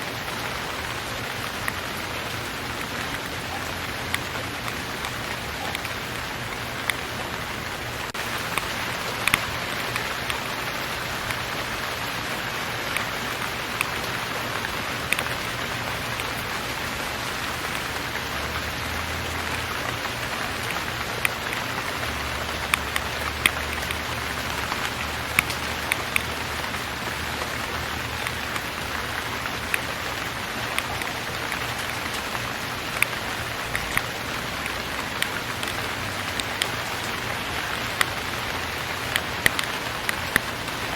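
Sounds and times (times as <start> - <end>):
raindrops ticking close by: 0.0 - 40.9
steady rain falling: 0.0 - 40.9.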